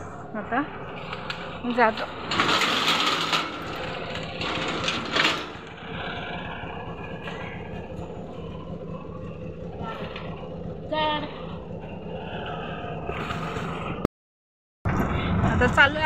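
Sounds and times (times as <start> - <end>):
rickshaw engine idling: 0.0 - 14.1.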